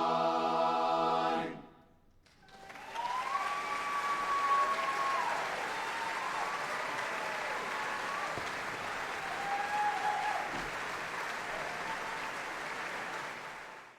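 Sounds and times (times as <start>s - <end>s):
audience applauding: 2.2s - 13.9s.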